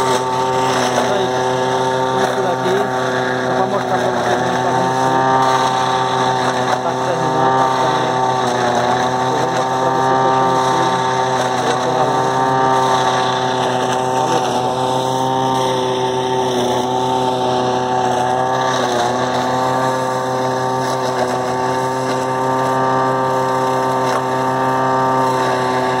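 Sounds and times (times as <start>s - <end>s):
tractor and forage harvester running: 0.0s - 26.0s.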